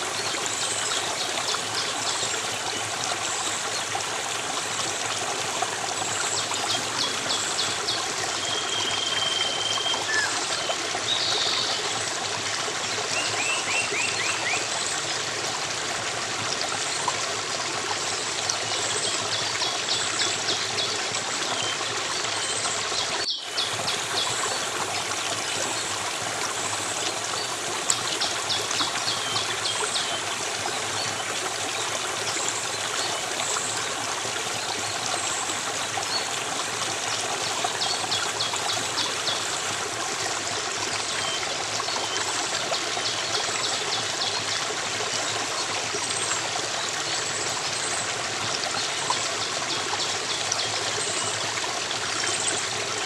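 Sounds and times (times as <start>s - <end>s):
stream water flowing: 0.0s - 53.0s.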